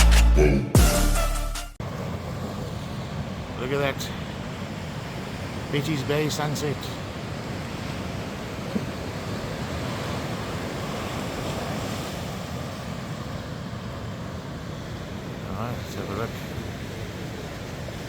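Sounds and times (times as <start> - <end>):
ocean surf washing: 1.8 - 18.0.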